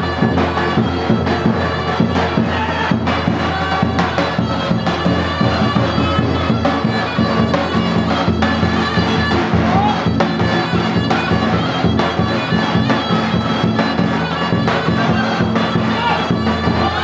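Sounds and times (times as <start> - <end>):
shrill reed wind instrument: 0.0 - 17.0.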